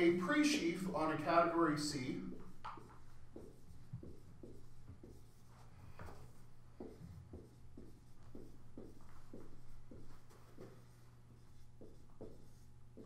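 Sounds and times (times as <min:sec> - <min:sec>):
low steady hum: 0:00.0 - 0:13.0
marker squeaking on whiteboard: 0:02.3 - 0:13.0.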